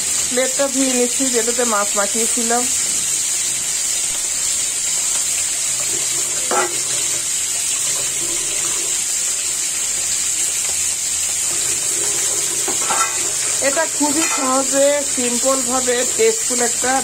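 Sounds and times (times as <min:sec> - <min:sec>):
fish sizzling in hot oil: 0:00.0 - 0:17.0
tap water running: 0:00.0 - 0:17.0.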